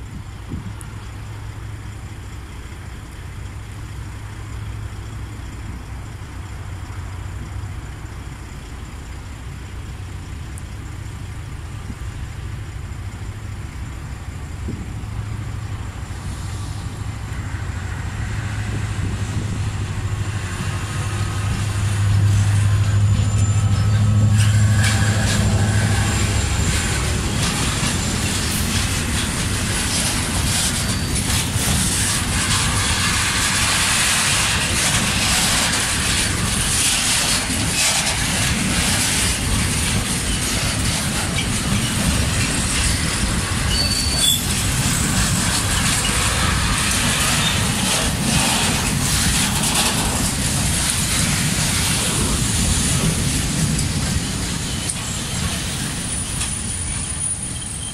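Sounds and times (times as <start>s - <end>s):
diesel locomotive engine hum: 0.0s - 57.9s.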